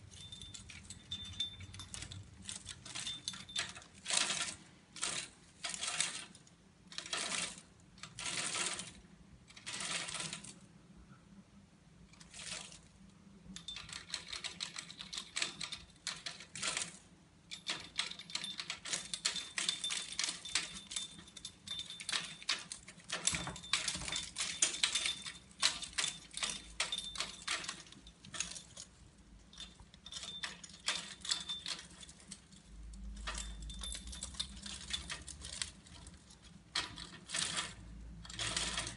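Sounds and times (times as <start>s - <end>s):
parrot clicking and clattering: 0.0s - 10.6s, 13.5s - 38.9s
parrot rustling toys: 0.0s - 10.7s, 12.1s - 38.9s.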